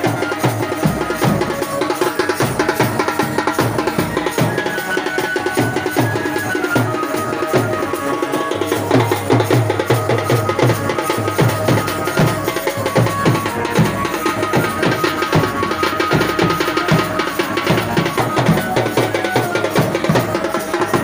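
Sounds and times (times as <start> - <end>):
held melody: 0.0 - 21.0.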